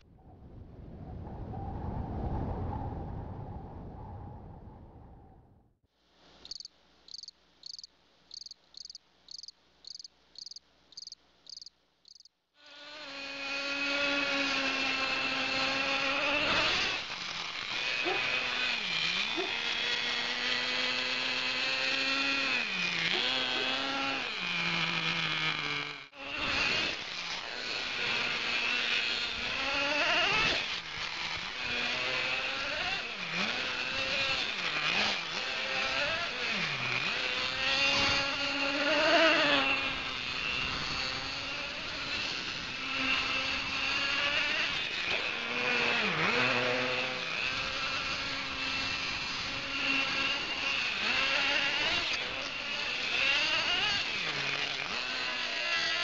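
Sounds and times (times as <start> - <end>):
small nitro engine revving: 6.4 - 56.0.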